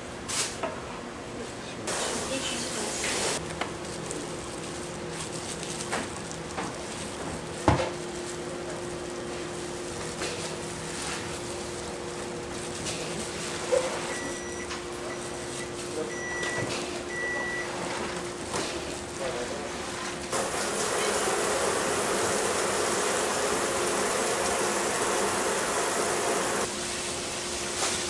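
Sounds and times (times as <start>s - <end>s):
appliance hum: 0.0s - 28.0s.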